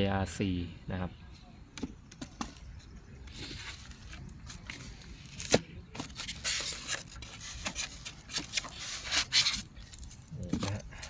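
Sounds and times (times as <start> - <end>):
packaging rustling and scraping: 2.1 - 11.0.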